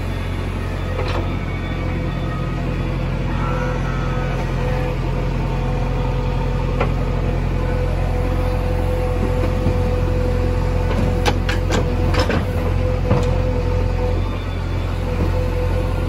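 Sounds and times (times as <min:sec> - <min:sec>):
diesel engine running: 0:00.0 - 0:16.0
engine whine: 0:00.0 - 0:16.0.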